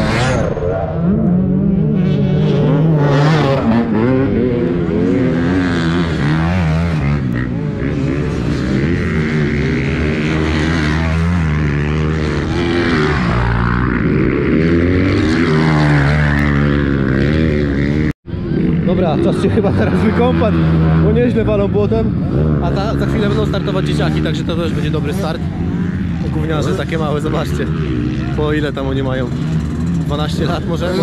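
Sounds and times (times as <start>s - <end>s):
motocross bikes revving past: 0.0s - 31.0s.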